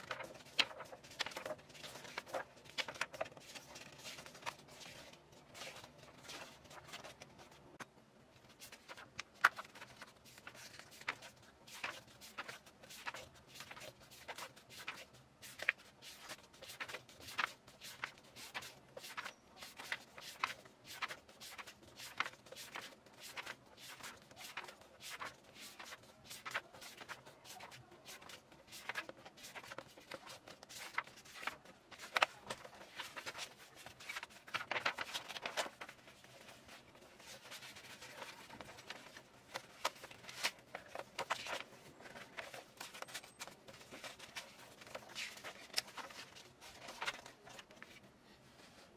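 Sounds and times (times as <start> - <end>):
paper pages rustling: 0.0 - 48.9.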